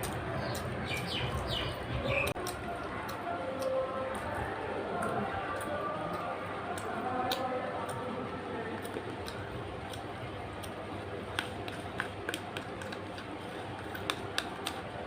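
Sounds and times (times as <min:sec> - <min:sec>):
chewing clicks and smacks: 0:00.0 - 0:04.3, 0:05.0 - 0:08.1, 0:08.8 - 0:14.9.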